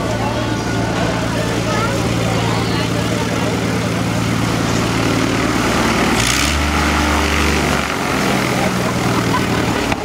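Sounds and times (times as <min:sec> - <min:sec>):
plane engine and propeller: 0:00.0 - 0:10.0.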